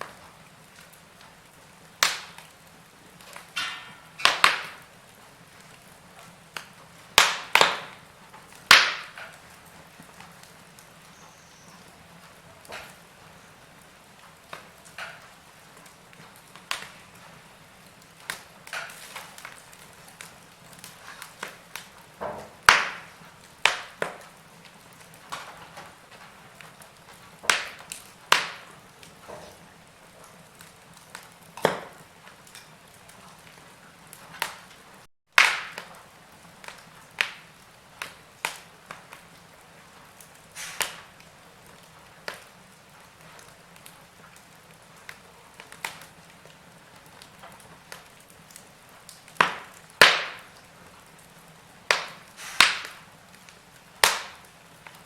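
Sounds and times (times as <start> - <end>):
faint steady hiss: 0.0 - 35.1, 35.7 - 55.0
wood fire crackling and popping: 0.0 - 55.0.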